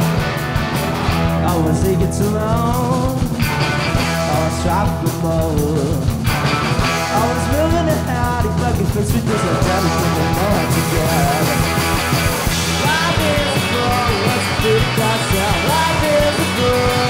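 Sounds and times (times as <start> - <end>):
drums: 0.0 - 17.0
electric bass: 0.0 - 17.0
electric guitar: 0.0 - 17.0.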